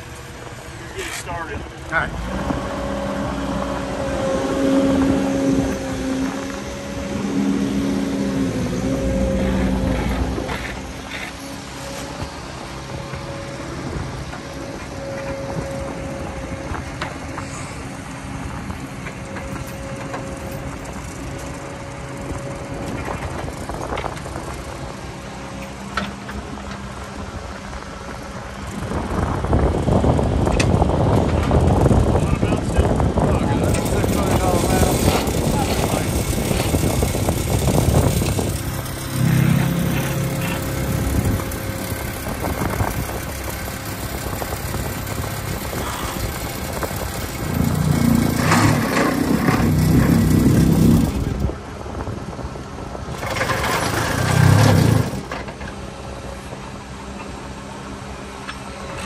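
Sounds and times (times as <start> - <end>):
excavator diesel engine under load: 0.0 - 59.0.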